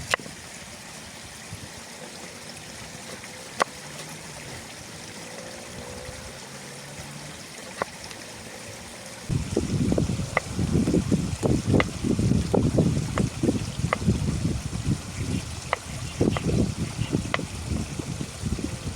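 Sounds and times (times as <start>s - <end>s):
stream running: 0.0s - 18.9s.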